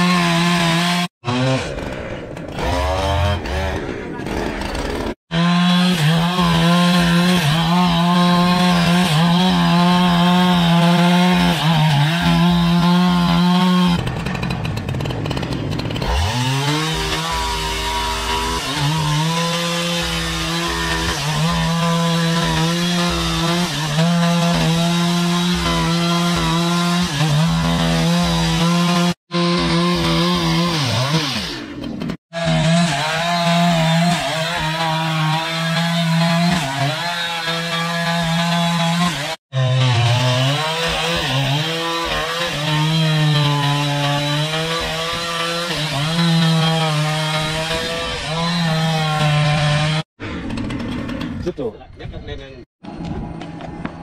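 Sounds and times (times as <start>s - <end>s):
chainsaw cutting through log: 0.0s - 51.5s.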